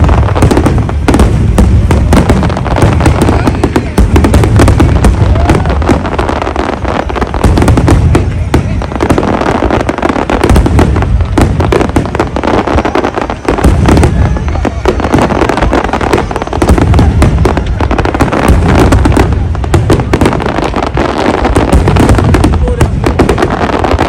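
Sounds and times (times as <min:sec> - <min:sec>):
fireworks cracking and banging: 0:00.0 - 0:24.0.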